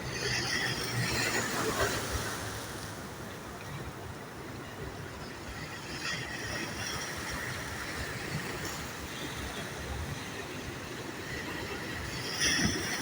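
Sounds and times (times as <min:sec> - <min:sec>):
wash of the sea: 0:00.0 - 0:13.0.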